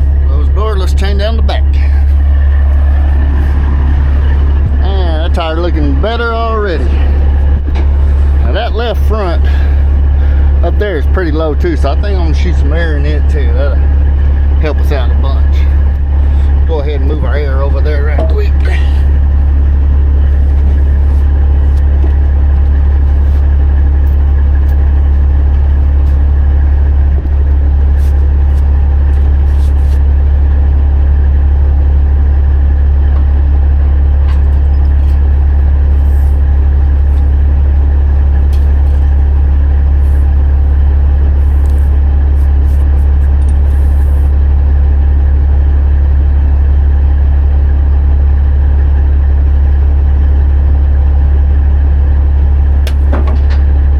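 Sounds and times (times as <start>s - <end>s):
heavy diesel engine idling: 0.0s - 53.9s.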